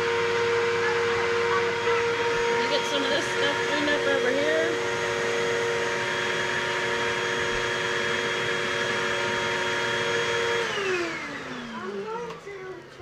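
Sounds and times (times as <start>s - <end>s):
motor spinning down: 0.0s - 13.0s
vacuum cleaner motor whining: 0.0s - 13.0s.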